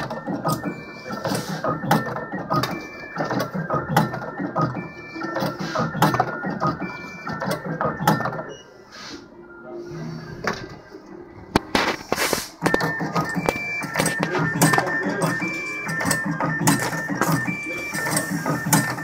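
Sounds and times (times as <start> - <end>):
machine mechanical clicks and clacks: 0.0 - 8.6, 11.5 - 19.0.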